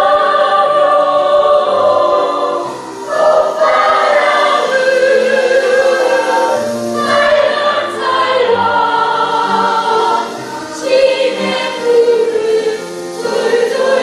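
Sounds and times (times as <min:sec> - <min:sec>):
choir singing children's song: 0:00.0 - 0:14.0.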